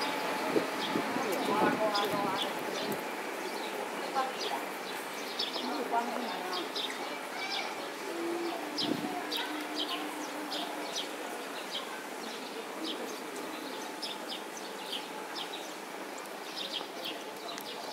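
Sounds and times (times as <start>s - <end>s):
steady background noise: 0.0s - 17.9s.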